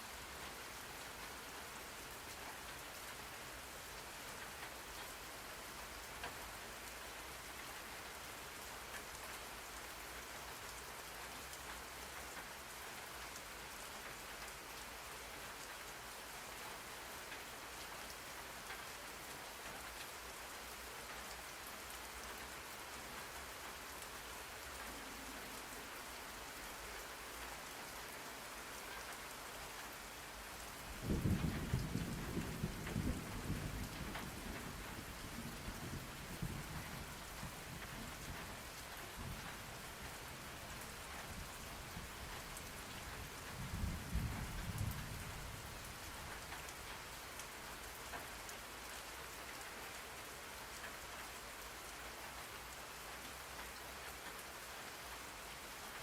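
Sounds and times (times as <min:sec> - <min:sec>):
steady rain hiss: 0:00.0 - 0:56.0
faint raindrop ticks: 0:00.3 - 0:56.0.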